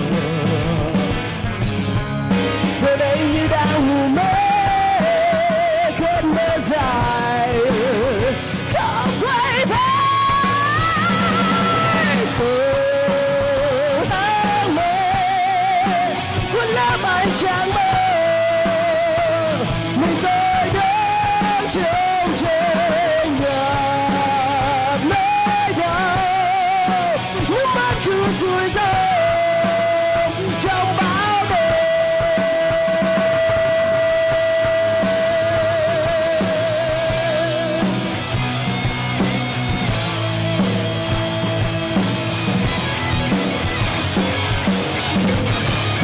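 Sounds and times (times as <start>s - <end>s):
live rock band playing: 0.0s - 46.0s.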